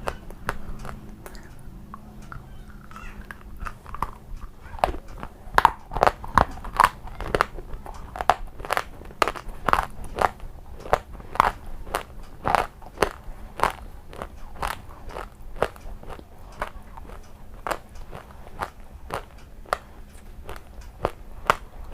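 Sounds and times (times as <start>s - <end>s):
crunchy biting and chewing: 0.0s - 21.9s.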